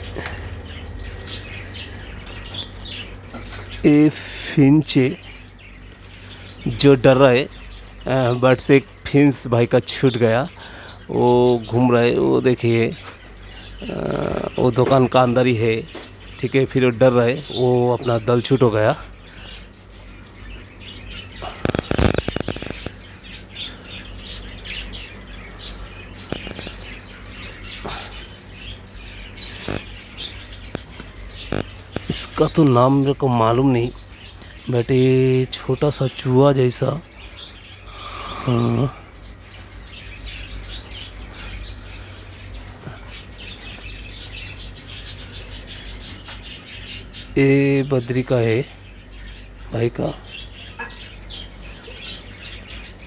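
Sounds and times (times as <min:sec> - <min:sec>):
cage birds chirping and twittering: 0:00.0 - 0:53.0
steady low hum: 0:00.0 - 0:53.0.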